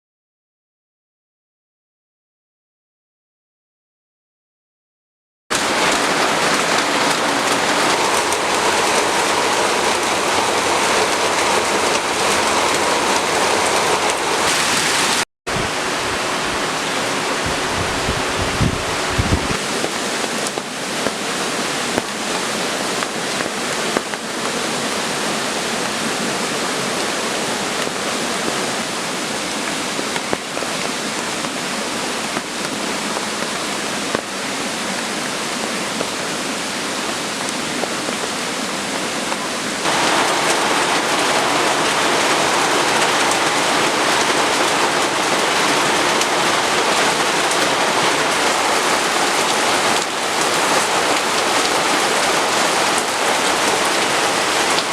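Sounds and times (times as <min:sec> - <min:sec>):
falling rain: 0:05.5 - 0:54.9.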